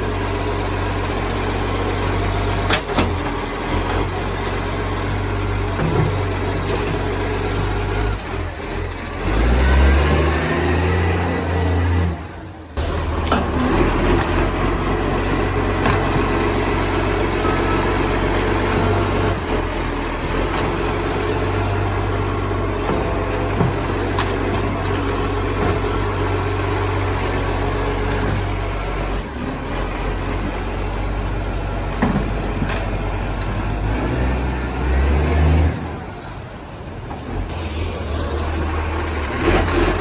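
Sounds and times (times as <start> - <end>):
garbage truck diesel engine revving: 0.0 - 40.0.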